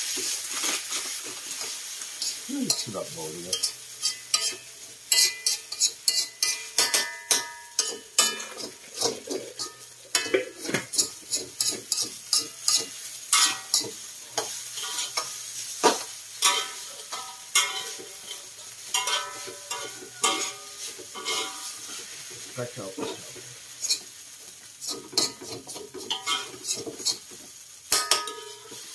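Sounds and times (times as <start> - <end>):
metal spatula scraping a wok: 0.0 - 2.9, 3.5 - 28.9
frying sizzle: 0.0 - 28.9.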